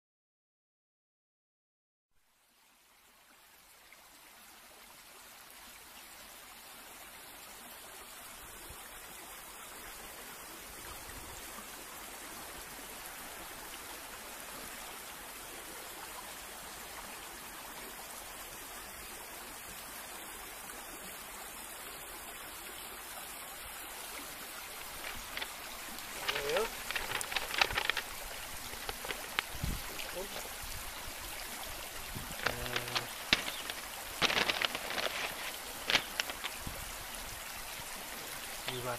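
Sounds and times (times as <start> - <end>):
flowing stream: 2.2 - 38.9.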